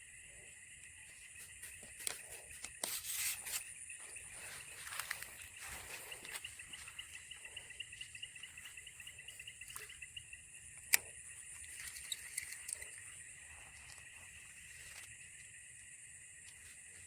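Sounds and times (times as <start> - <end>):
insect high-pitched drone: 0.0 - 17.0
insect pulsing chirp: 0.0 - 17.0.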